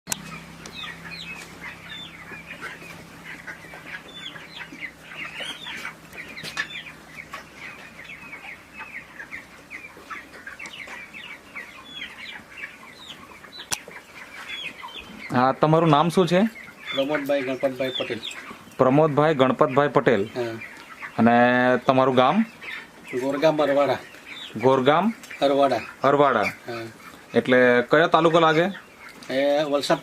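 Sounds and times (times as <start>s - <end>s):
chicks peeping: 0.1s - 30.0s.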